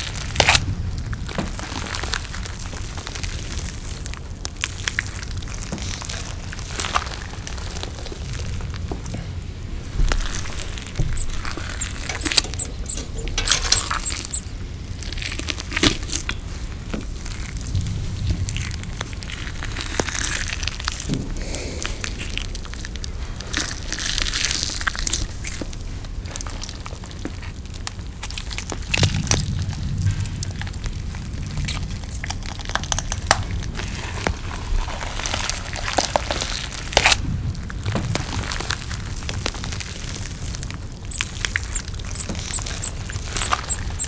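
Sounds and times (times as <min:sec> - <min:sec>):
chewing with crunches: 0:00.0 - 0:44.0.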